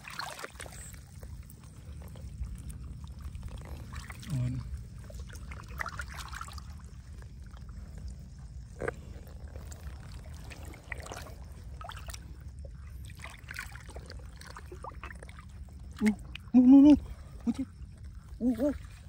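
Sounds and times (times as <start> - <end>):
pond water trickling: 0.0 - 19.0
low rumble: 0.7 - 19.0.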